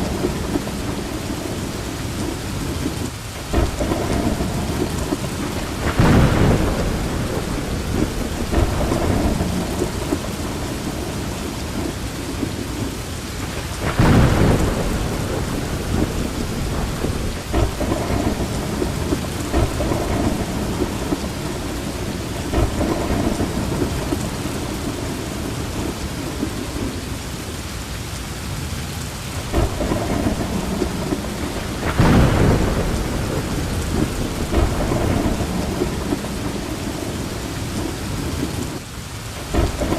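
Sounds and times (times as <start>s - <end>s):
thunder rumbling: 0.0s - 27.7s, 28.5s - 39.9s
heavy rain falling: 0.0s - 39.9s.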